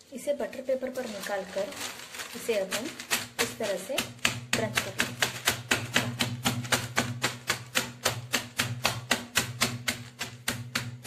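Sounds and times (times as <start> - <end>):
tool pounding brittle in paper: 0.8 - 11.0.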